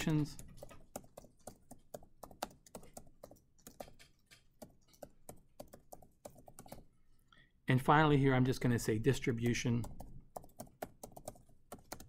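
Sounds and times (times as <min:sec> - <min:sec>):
typing on computer keyboard: 0:00.0 - 0:06.9, 0:09.2 - 0:12.0.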